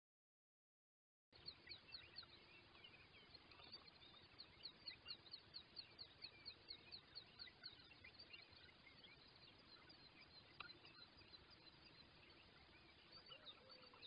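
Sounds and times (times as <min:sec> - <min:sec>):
high downward-sliding bird chirps: 0:01.5 - 0:14.0.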